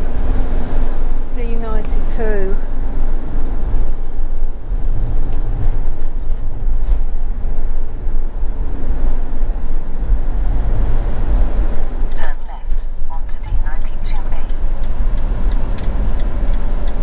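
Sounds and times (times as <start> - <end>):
motorhome engine and tyre noise: 0.0 - 17.0.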